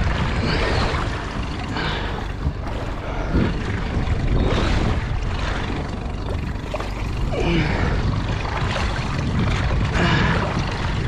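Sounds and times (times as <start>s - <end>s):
water splashing against boat hull: 0.0s - 11.0s
wind buffeting microphone: 0.0s - 11.0s.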